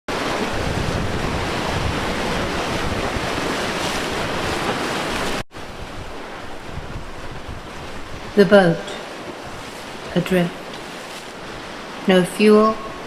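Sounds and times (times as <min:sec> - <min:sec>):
sea waves: 0:00.1 - 0:13.0
wind: 0:00.1 - 0:13.0.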